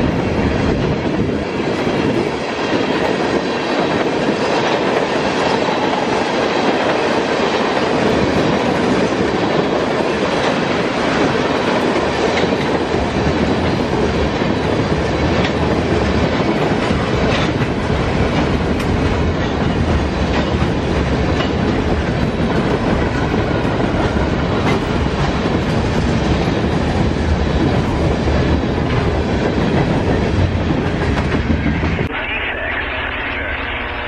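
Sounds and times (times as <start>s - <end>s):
steel wheels rumbling on rails: 0.0s - 32.4s.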